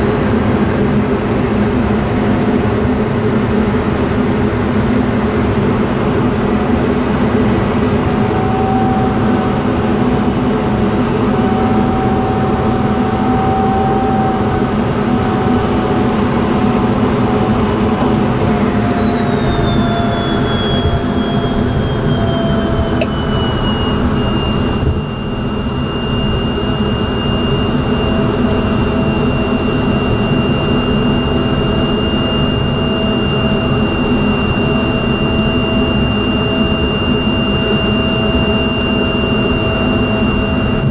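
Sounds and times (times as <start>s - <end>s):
jet engine rumble and whine: 0.0s - 40.9s.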